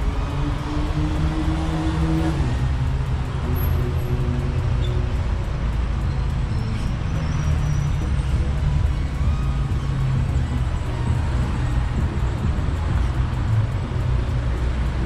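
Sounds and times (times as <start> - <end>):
passing vehicle engine hum: 0.0 - 15.0
road traffic noise: 0.0 - 15.0
wind rumble on microphone: 0.0 - 15.0.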